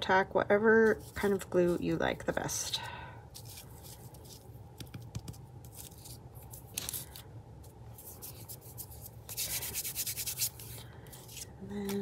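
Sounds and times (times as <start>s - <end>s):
paper rustling and rubbing: 0.8s - 2.5s, 3.3s - 12.0s.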